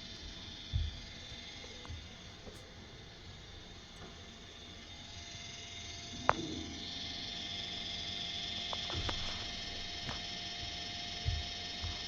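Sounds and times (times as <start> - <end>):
blower motor high whir: 0.0 - 12.0.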